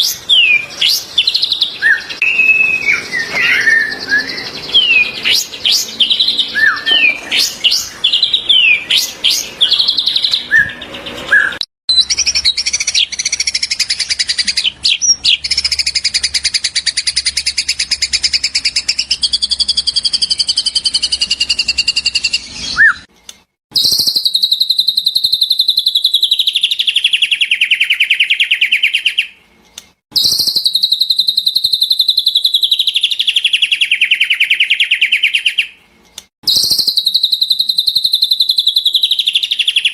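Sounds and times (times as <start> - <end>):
songbird whistles and trills: 0.0 - 23.1, 23.7 - 29.4, 30.1 - 35.8, 36.4 - 39.9.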